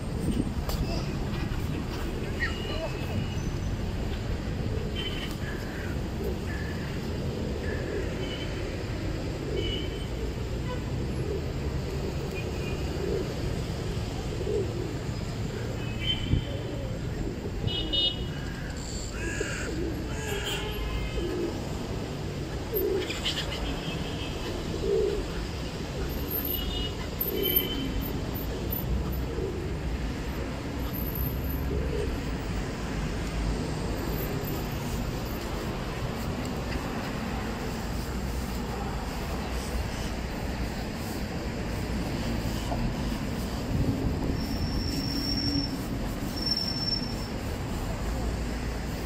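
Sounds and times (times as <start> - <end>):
low rumble of street traffic: 0.0 - 49.0.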